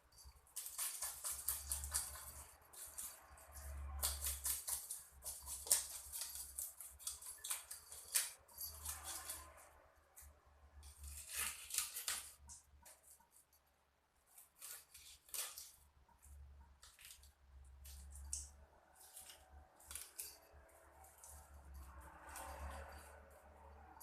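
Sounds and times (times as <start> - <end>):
snipping and scraping fish: 0.0 - 13.6, 14.2 - 24.0.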